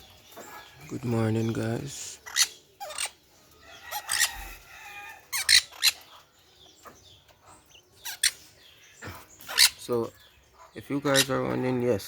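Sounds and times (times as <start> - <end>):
caged birds calling: 0.0 - 12.0.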